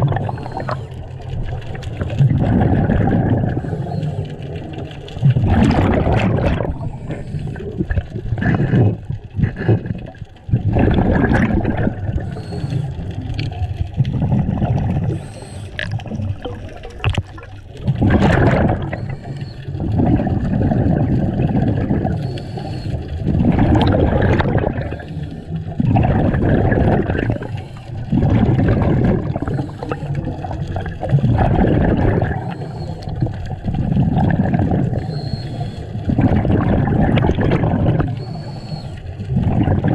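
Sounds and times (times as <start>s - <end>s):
diver exhaling bubbles: 0.0s - 39.9s.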